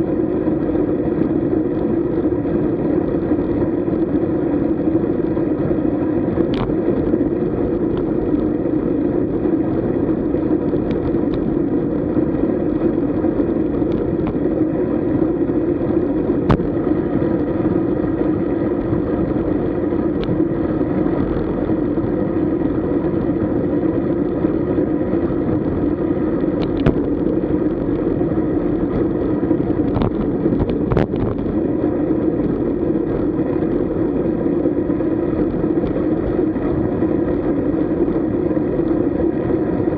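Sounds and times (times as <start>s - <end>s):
bicycle road and wind noise: 0.0s - 39.9s.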